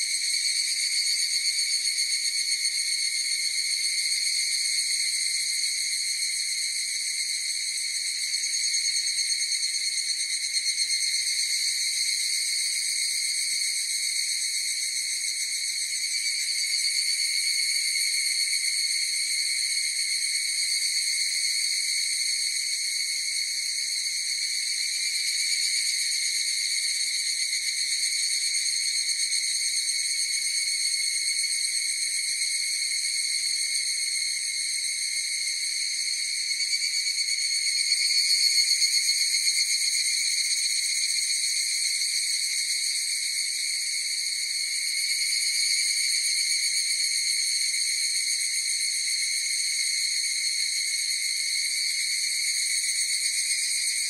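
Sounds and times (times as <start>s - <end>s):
evening cicadas calling: 0.0s - 54.0s.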